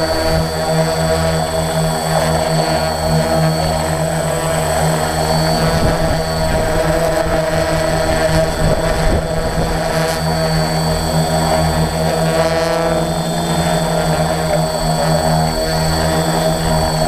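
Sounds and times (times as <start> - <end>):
helicopter engine and rotor: 0.0 - 17.0
high turbine whine: 0.0 - 17.0.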